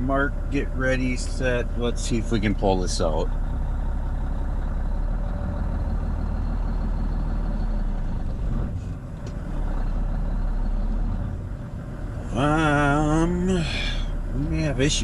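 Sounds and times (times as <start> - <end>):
diesel truck engine straining: 0.0 - 15.0.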